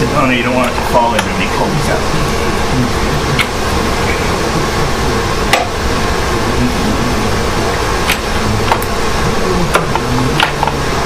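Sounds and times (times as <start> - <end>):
background hiss and hum: 0.0 - 11.0.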